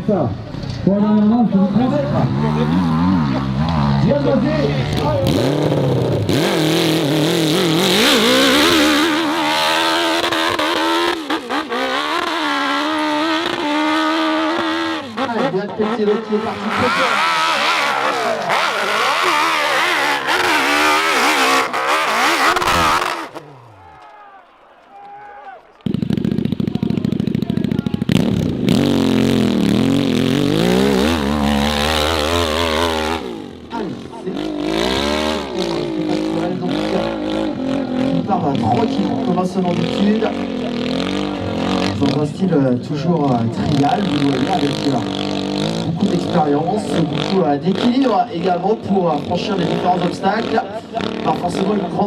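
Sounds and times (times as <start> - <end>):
motorcycle engine revving: 0.4 - 24.0, 25.8 - 52.0.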